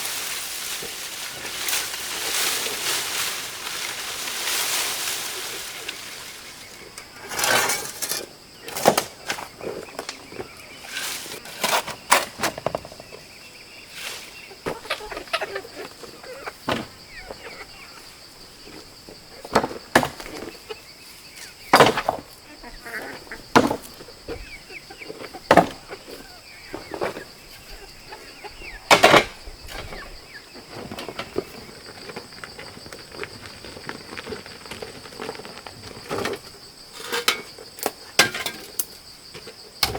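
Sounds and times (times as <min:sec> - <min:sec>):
high drone of insects: 0:00.0 - 0:39.9.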